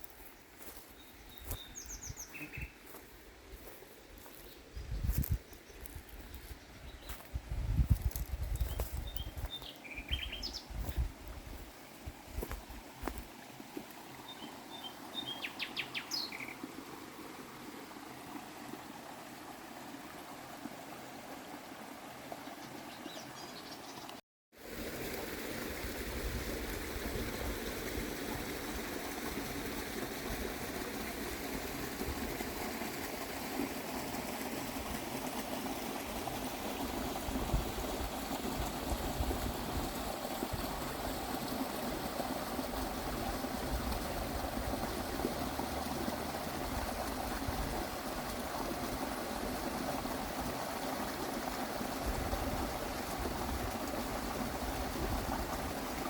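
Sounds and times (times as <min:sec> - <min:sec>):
water stream flowing: 0:00.0 - 0:56.0.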